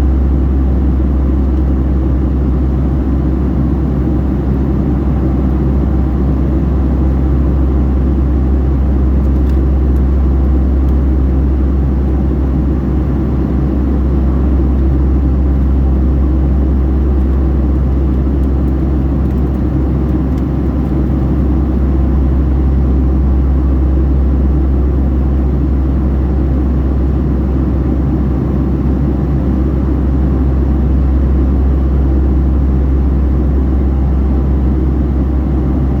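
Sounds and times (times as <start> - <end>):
jet engines and airflow rumble: 0.0 - 36.0.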